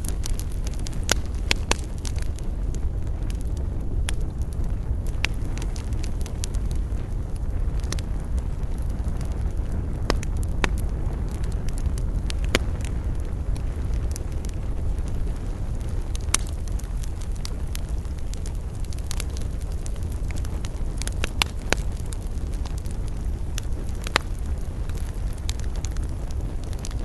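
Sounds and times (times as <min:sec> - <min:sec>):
campfire crackling and popping: 0:00.0 - 0:27.0
low rumble of burning fire: 0:00.0 - 0:27.0.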